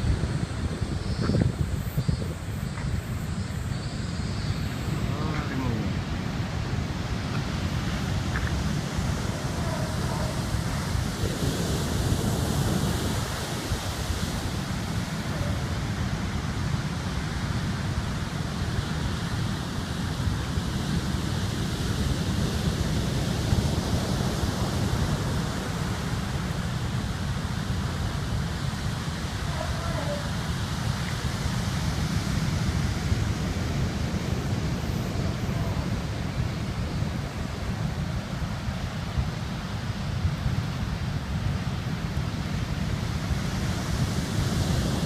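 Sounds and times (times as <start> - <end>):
heavy surf breaking: 0.0 - 45.0
wind buffeting microphone: 0.0 - 45.0.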